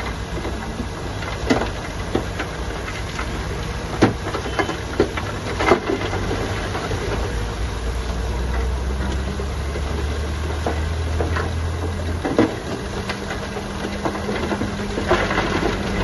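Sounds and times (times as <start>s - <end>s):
diesel engine hum: 0.0s - 16.0s.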